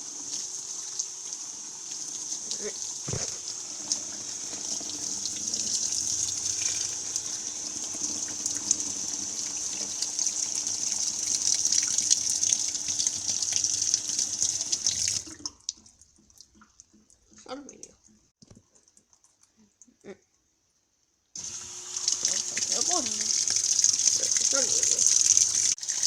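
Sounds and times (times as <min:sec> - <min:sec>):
washing machine running water: 0:00.0 - 0:17.7, 0:21.4 - 0:26.0.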